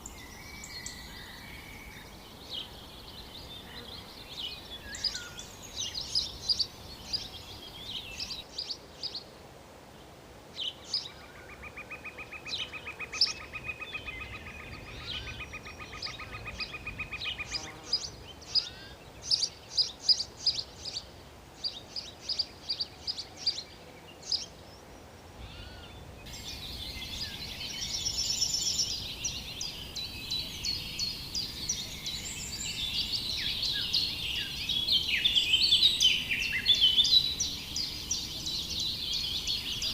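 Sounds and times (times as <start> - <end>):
birds chirping: 0.0 - 9.3, 10.6 - 39.9
dense chorus of birds: 0.0 - 9.3, 9.9 - 39.9.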